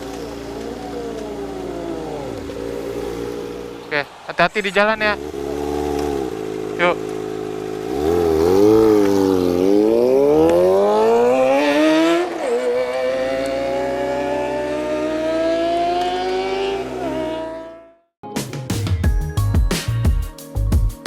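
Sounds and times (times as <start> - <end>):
motorcycle engine accelerating: 0.0 - 18.1.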